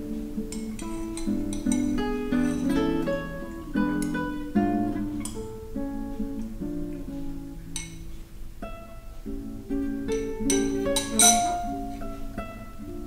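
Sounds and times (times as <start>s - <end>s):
acoustic guitar plucking and strumming: 0.0s - 13.0s.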